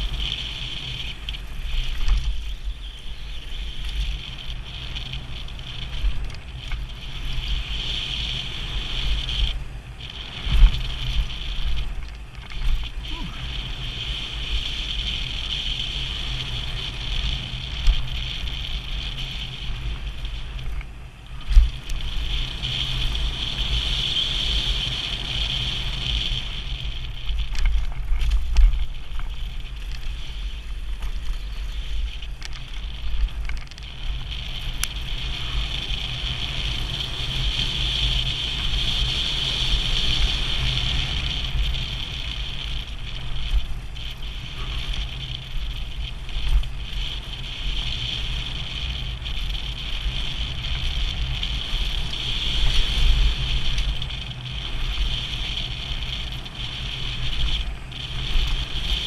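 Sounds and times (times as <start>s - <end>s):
bike tyre and drivetrain noise: 0.0s - 59.0s
wind rumbling on microphone: 0.0s - 59.0s.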